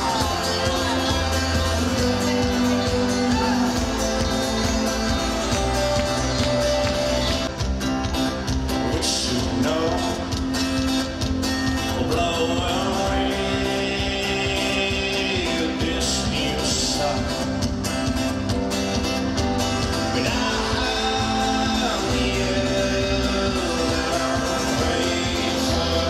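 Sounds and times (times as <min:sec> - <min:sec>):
man singing: 0:00.0 - 0:07.5, 0:08.7 - 0:10.9, 0:11.6 - 0:17.8, 0:19.9 - 0:26.0
acoustic guitar: 0:00.0 - 0:26.0
live band music: 0:00.0 - 0:26.0.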